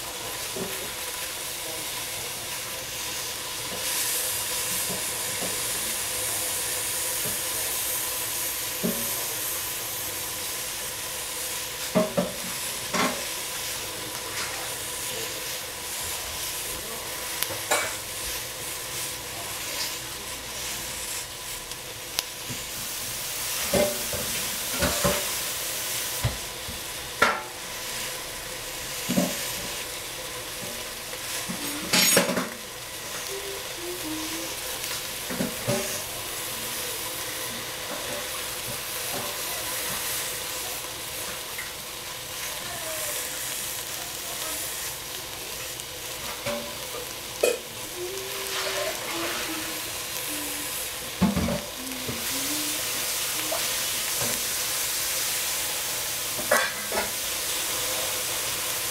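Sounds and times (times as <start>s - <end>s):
vegetables frying in a pot: 0.0s - 58.9s.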